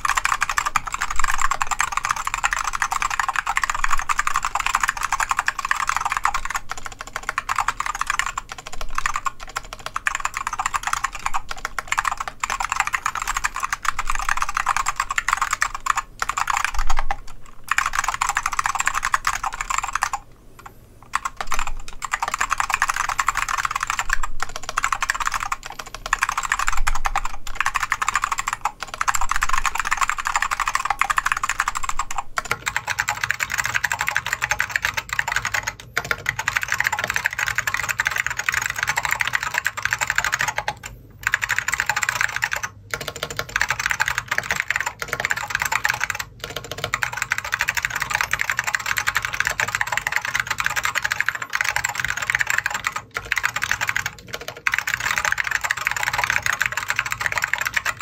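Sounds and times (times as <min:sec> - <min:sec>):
fast typing on a keyboard: 0:00.0 - 0:58.0.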